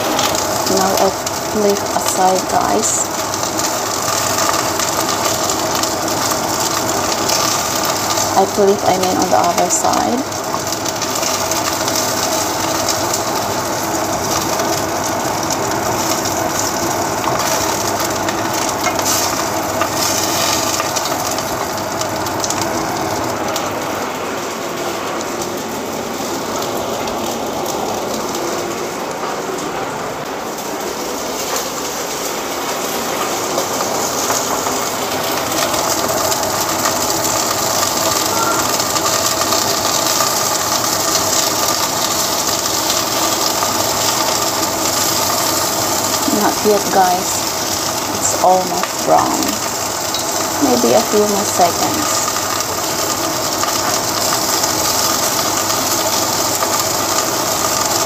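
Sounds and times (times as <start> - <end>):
meat sizzling and crackling: 0.0 - 29.6, 30.4 - 58.0.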